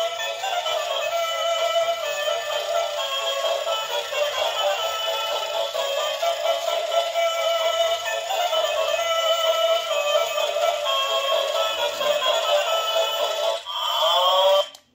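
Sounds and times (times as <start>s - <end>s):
thin electronic melody: 0.0s - 14.7s.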